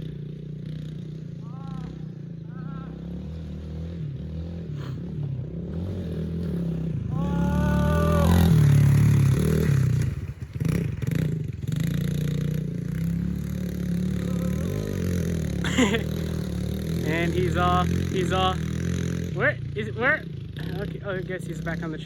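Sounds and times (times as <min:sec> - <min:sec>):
motorbike engine under throttle: 0:00.0 - 0:22.0.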